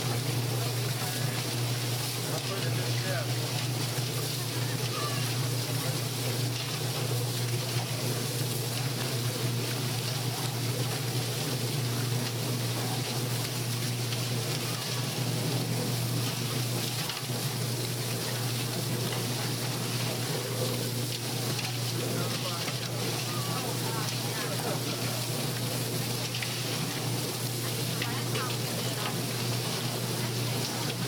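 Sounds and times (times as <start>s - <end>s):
motor hum: 0.0s - 31.0s.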